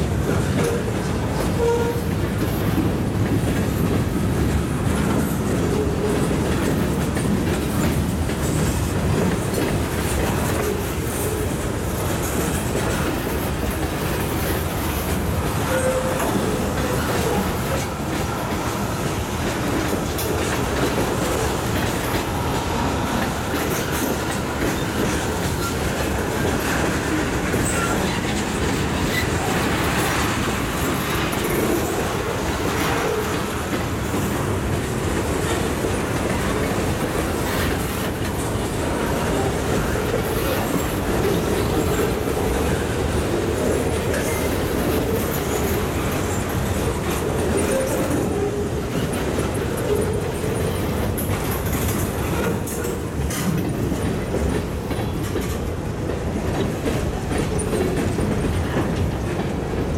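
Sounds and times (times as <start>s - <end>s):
train wheels rumbling on rails: 0.0s - 59.9s
wheels clicking over rail joints: 0.1s - 59.9s.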